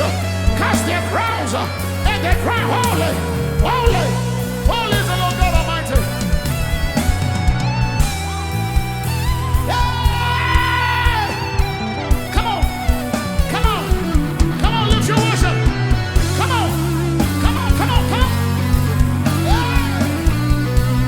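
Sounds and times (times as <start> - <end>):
bending lead melody: 0.0 - 21.0
live band playing: 0.0 - 21.0.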